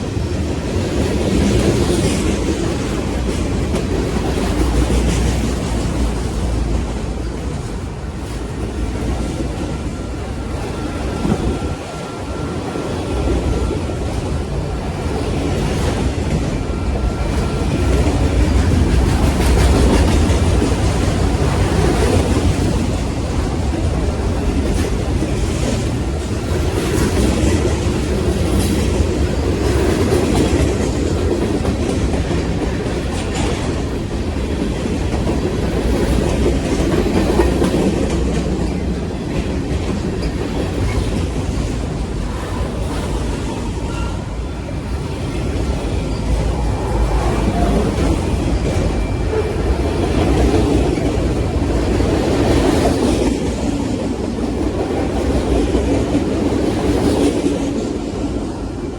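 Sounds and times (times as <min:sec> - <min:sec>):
wheels clacking over rail joints: 0:00.0 - 0:58.8
train rumbling on track: 0:00.0 - 0:58.9.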